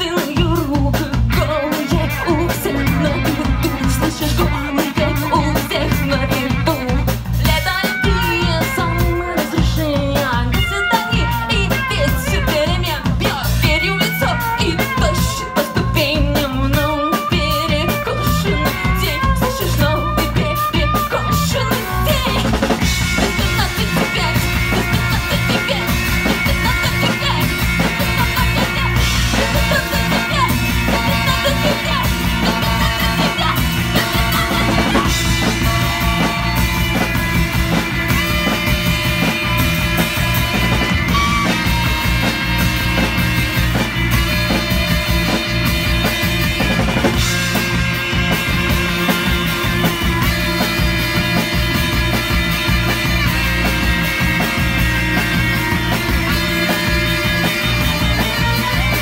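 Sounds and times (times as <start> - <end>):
live post-punk rock band: 0.0 - 59.0
saxophone: 0.0 - 59.0.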